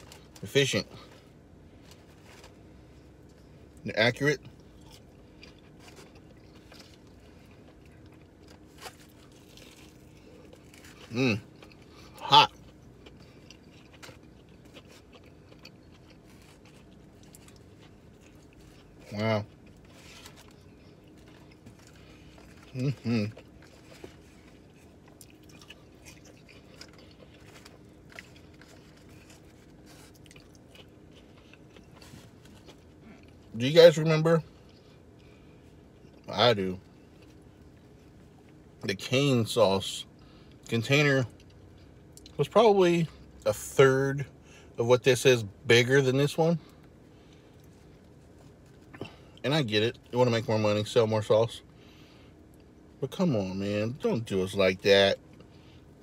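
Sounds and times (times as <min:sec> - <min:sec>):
chewing and crunching fried food: 0:00.0 - 0:56.0.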